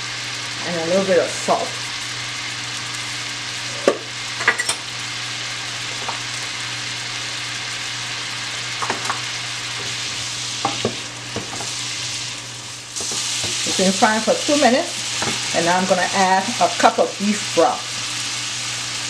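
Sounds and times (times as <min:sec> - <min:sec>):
mushrooms sizzling in a pan: 0:00.0 - 0:19.0.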